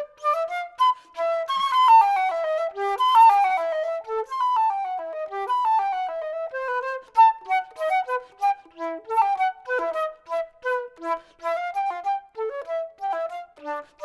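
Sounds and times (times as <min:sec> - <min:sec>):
solo flute playing: 0:00.0 - 0:14.0.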